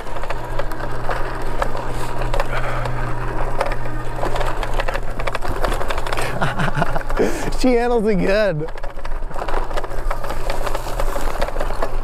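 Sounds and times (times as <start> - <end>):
bike rattling and clicking: 0.0 - 12.0
steady low hum: 0.0 - 12.0.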